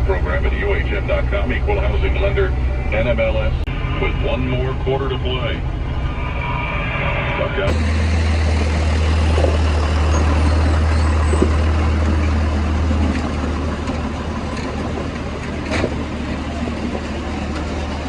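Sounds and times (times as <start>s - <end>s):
farm machinery engine humming: 0.0s - 18.0s.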